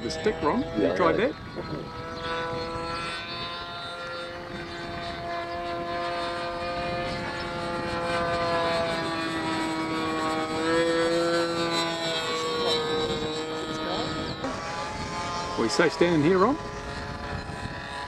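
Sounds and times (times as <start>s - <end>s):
model plane engine droning: 0.0s - 18.0s.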